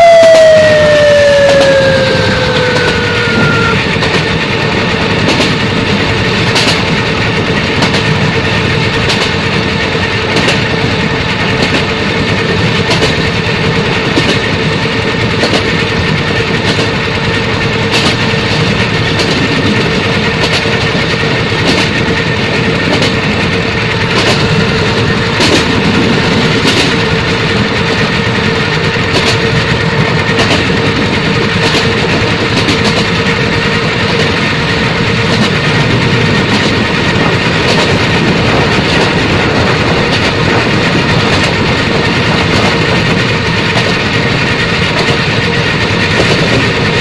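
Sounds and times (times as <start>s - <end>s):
train rumbling on track: 0.0s - 47.0s
train wheel clicks: 0.2s - 47.0s.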